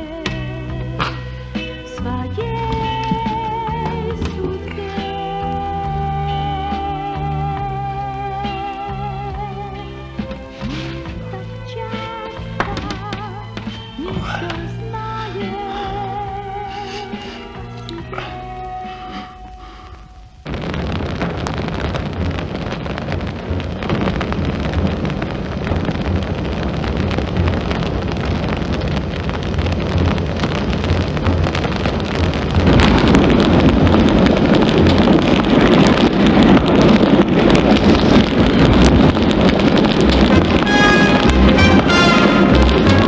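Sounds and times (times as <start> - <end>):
large fire crackling roar: 0.0 - 43.0.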